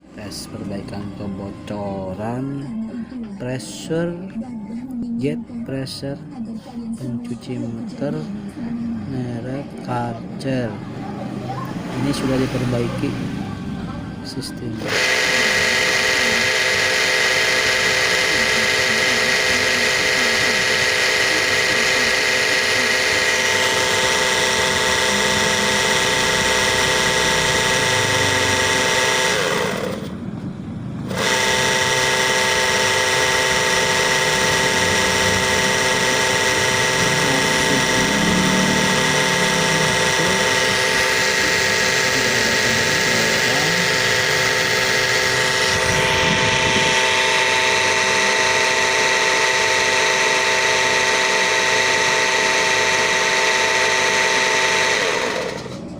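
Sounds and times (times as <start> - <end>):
pressure washer motor humming: 10.8 - 55.9.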